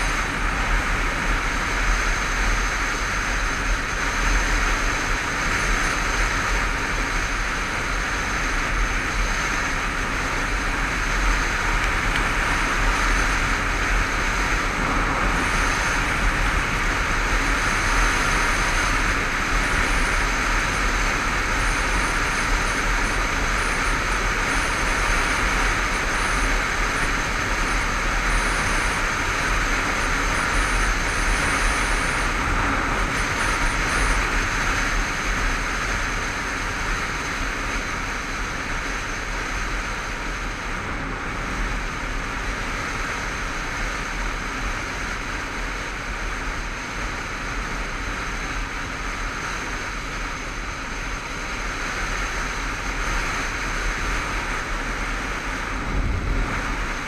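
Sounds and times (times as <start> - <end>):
wind rush: 0.0 - 45.3, 46.8 - 57.0
motorcycle engine running: 0.0 - 57.0
road noise: 0.0 - 57.0.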